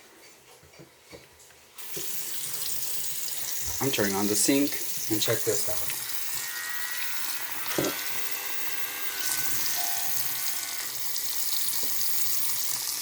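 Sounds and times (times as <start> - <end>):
electric shaver whine: 1.8 - 13.0
sink tap running: 1.8 - 13.0.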